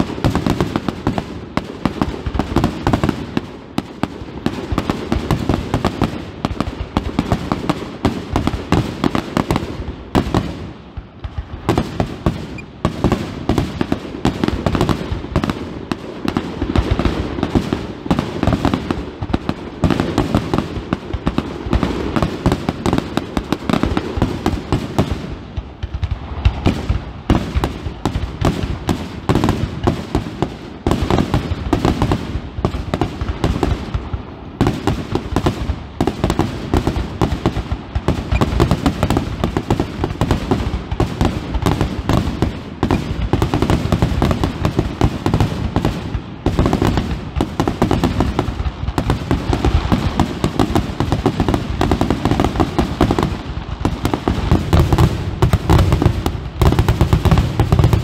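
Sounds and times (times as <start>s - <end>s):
fireworks bursts and crackling: 0.0s - 58.0s.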